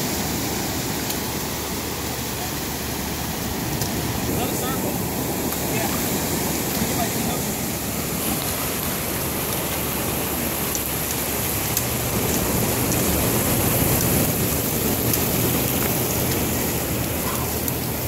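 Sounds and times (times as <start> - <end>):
shallow surf over sand: 0.0 - 18.0
wind on microphone: 3.0 - 18.0.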